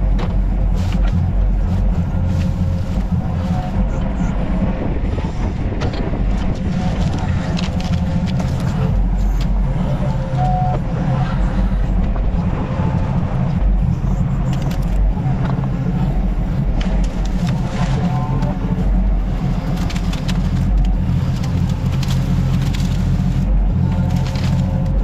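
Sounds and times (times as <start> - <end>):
diesel excavator engine running: 0.0 - 25.0.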